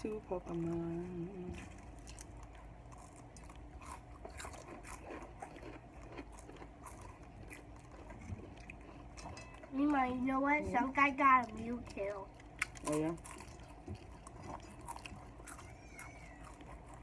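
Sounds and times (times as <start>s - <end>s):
chewing crunchy chips: 0.0s - 9.8s, 11.2s - 17.0s.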